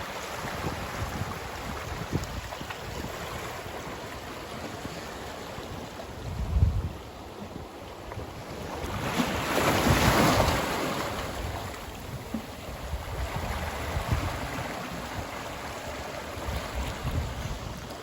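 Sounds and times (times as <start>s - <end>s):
ocean waves breaking: 0.0s - 18.0s
wind buffeting microphone: 0.0s - 18.0s.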